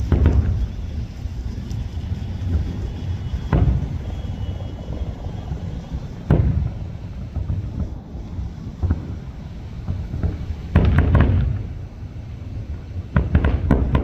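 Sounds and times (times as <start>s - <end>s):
fireworks bangs: 0.0s - 14.0s
steady low rumble: 0.0s - 14.0s.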